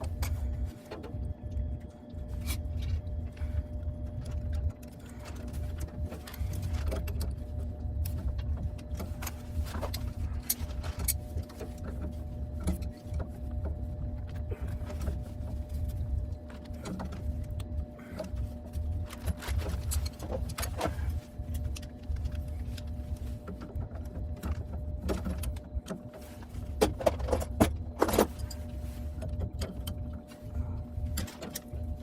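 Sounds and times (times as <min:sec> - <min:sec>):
motor humming: 0:00.0 - 0:32.0.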